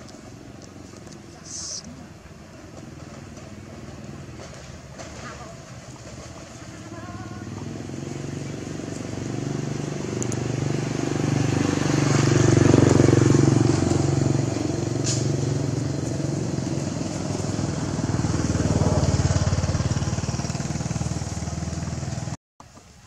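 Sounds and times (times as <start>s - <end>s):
motorcycles passing: 0.0s - 22.4s
motorcycle engine running: 2.7s - 22.4s.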